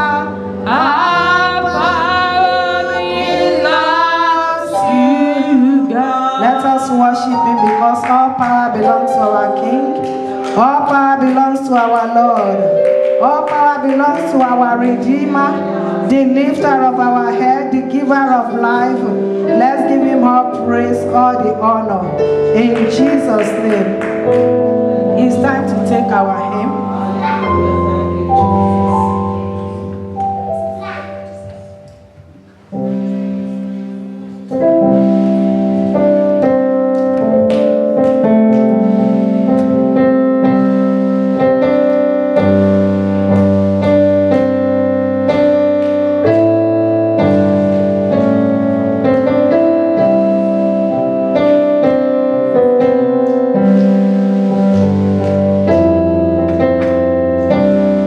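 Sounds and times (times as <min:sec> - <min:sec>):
church keyboard playing slow chords: 0:00.0 - 0:58.0.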